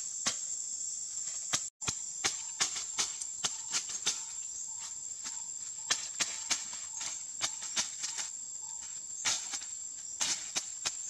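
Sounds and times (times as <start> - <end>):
insect buzz: 0.0 - 11.0
machete chopping into soil: 0.2 - 0.6, 1.2 - 11.0.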